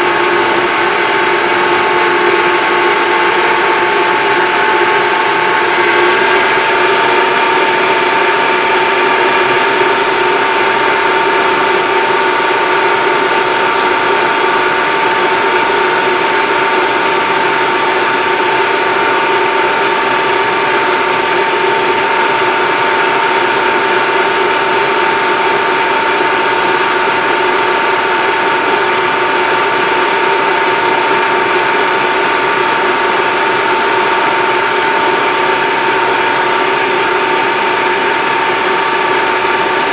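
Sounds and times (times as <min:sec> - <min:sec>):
constant drivetrain whine: 0:00.0 - 0:39.9
tractor engine from inside cab: 0:00.0 - 0:39.9.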